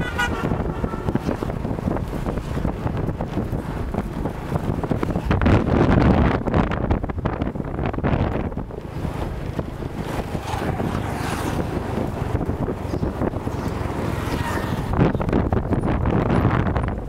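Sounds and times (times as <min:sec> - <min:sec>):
vehicle running noise: 0:00.0 - 0:17.0
wind buffeting microphone: 0:00.0 - 0:17.0.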